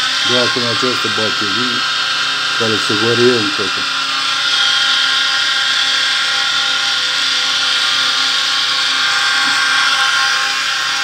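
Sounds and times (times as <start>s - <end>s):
electric motor whine: 0.0s - 11.0s.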